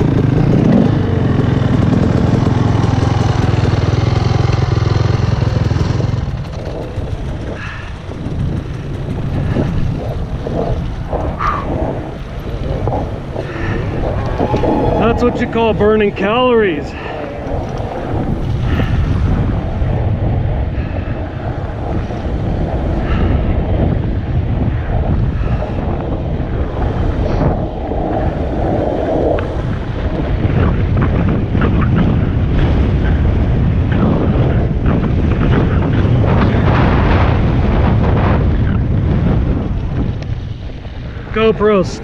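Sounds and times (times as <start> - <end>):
dirt bike engine running: 0.0 - 42.0
wind noise on microphone: 0.0 - 42.0.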